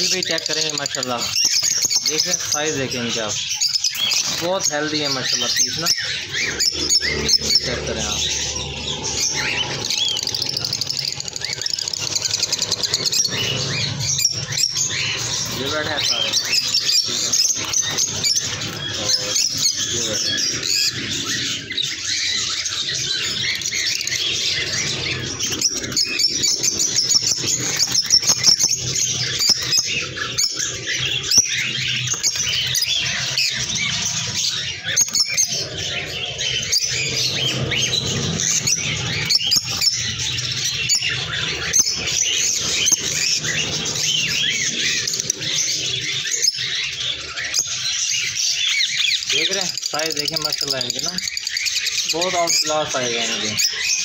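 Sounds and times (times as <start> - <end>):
lovebirds chattering: 0.0 - 54.0.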